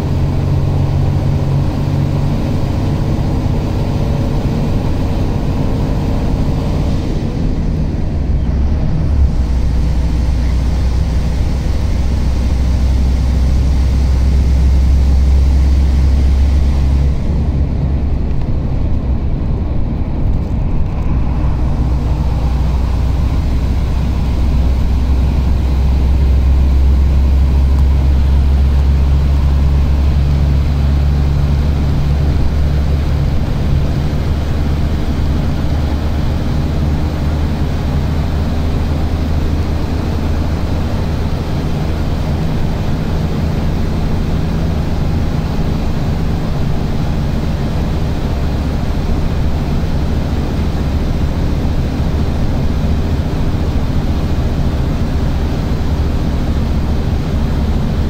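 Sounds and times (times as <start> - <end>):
road and engine rumble in vehicle: 0.0 - 58.0.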